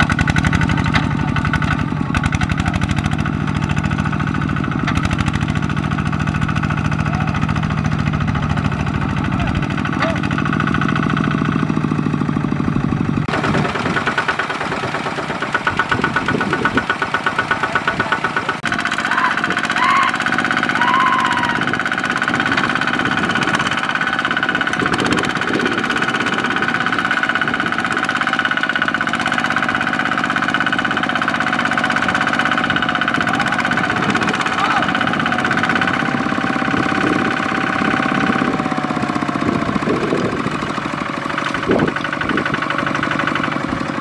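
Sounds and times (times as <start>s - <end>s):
diesel engine running hard: 0.0s - 44.0s.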